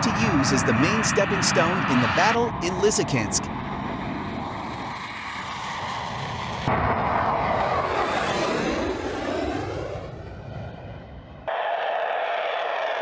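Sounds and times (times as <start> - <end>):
jet aircraft passing: 0.0 - 13.0.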